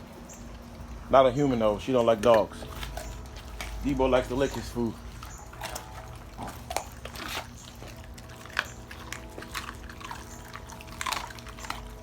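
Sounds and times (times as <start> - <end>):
dog licking and chewing: 0.0 - 12.0.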